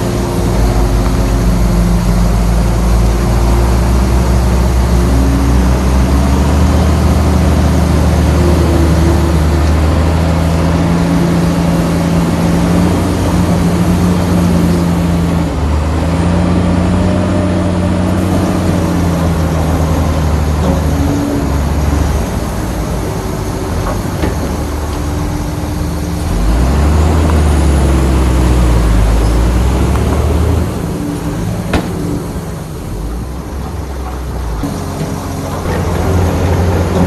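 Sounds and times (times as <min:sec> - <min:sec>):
bulldozer diesel engine working: 0:00.0 - 0:37.0.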